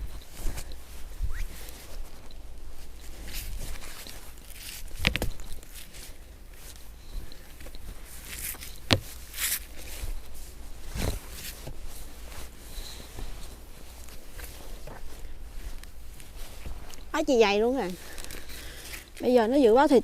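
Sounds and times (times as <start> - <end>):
footsteps in snow: 0.0 - 20.0.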